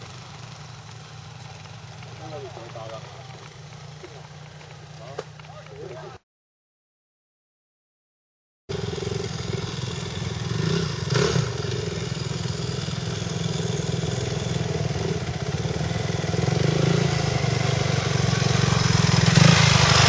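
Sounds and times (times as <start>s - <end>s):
dirt bike engines running: 0.0s - 6.2s, 8.7s - 20.0s.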